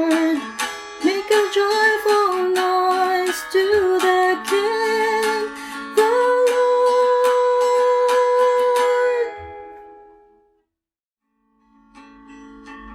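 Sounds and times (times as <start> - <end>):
strummed ukulele chords: 0.0 - 10.2, 11.9 - 12.9.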